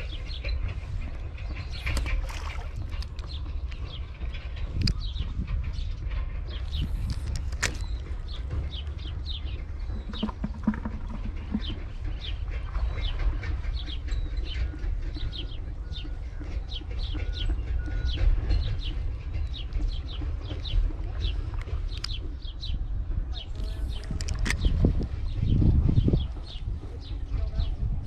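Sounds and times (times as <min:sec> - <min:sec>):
small birds chirping: 0:00.0 - 0:27.9
steady low rumble: 0:00.0 - 0:28.0.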